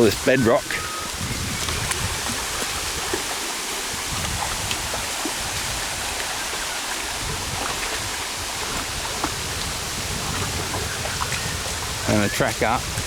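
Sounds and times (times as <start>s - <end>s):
waterfall and creek rushing over rock: 0.0s - 13.0s.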